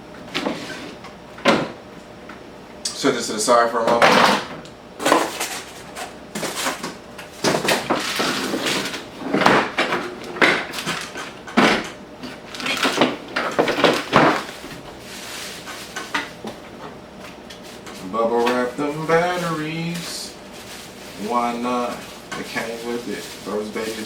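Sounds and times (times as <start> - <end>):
handling knocks and scrapes: 3.9 - 24.0.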